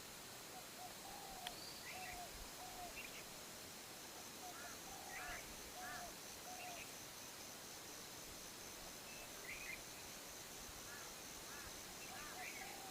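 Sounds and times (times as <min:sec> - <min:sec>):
high insect drone: 0:00.0 - 0:12.9
soft background hiss: 0:00.0 - 0:12.9.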